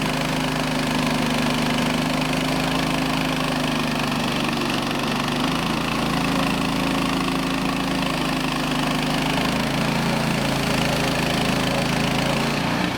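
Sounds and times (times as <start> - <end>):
sawmill engine running: 0.0 - 12.9.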